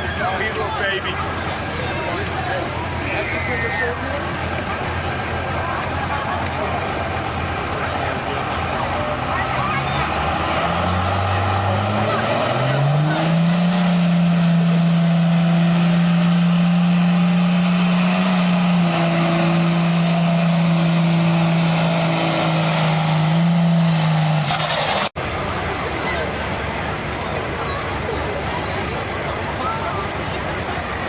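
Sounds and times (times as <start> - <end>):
pickup truck engine revving: 0.0 - 25.2.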